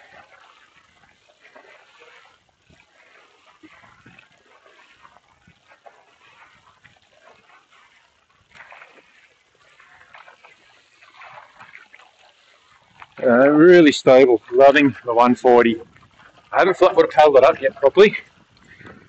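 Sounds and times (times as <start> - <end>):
paddle splashing through water: 0.0 - 19.0
water dripping and trickling: 0.0 - 19.0.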